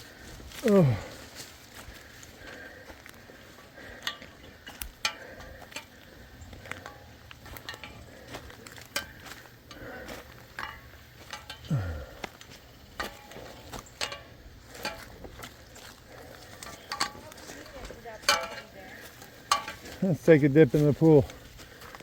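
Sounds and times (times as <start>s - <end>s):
footsteps through brush: 0.0s - 22.0s
twigs crackling and snapping: 0.0s - 22.0s.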